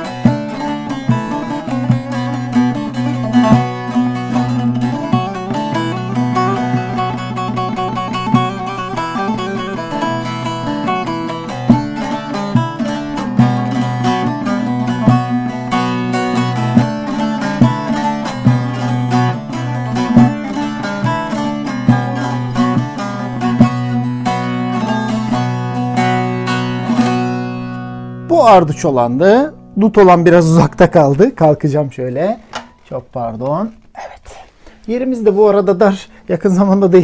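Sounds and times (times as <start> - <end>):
plucked lute melody: 0.0 - 33.9.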